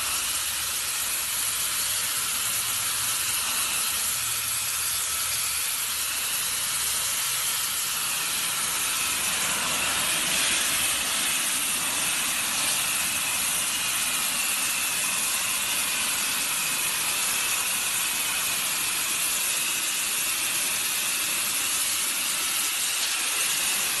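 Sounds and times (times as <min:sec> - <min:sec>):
pressure washer jet hissing: 0:00.0 - 0:24.0.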